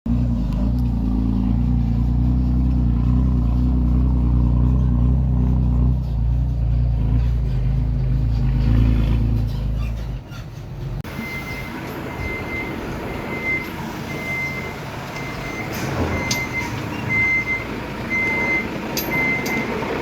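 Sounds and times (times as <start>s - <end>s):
heavy diesel engine running: 0.1s - 20.0s.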